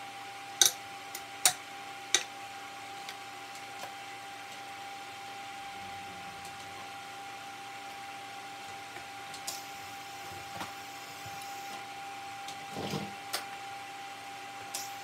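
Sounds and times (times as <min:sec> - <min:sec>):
electrical hum with high whine: 0:00.0 - 0:15.0.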